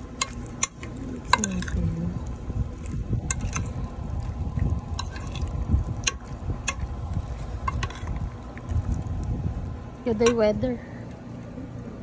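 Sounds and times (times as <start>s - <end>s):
wet squishing of fish chunks: 0.0s - 9.9s.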